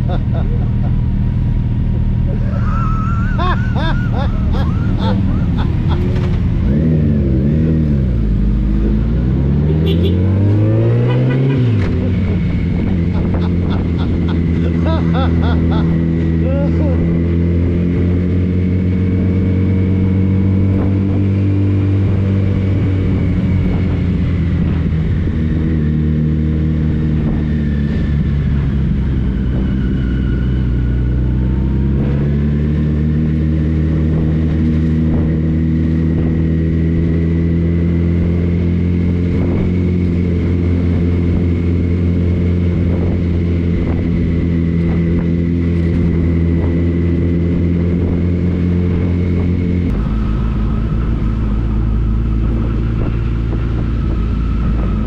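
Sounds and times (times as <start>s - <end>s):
motorcycle engine running: 0.0s - 9.1s, 9.7s - 55.0s.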